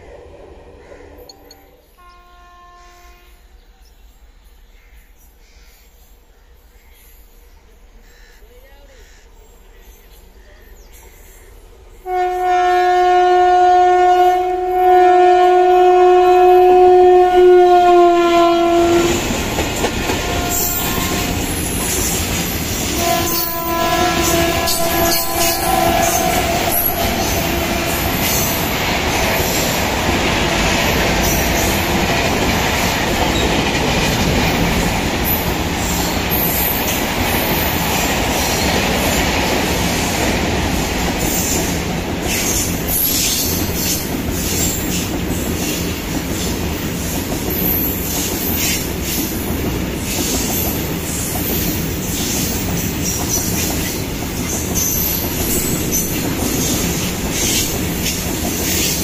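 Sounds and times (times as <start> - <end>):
freight train rumbling past: 0.0 - 3.8, 10.3 - 59.0.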